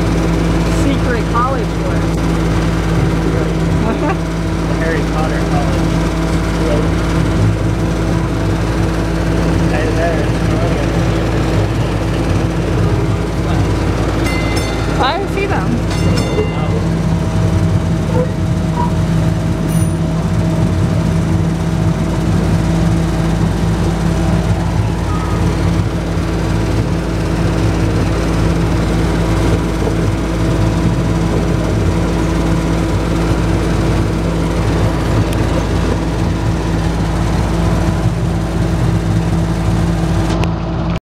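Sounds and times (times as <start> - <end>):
low steady hum: 0.0 - 40.9
train rolling rumble: 0.0 - 40.9
train engine drone: 0.0 - 41.0.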